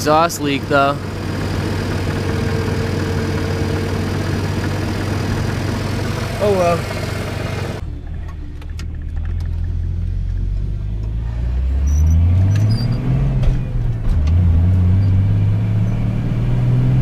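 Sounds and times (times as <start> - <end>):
pickup truck engine accelerating: 0.0 - 17.0.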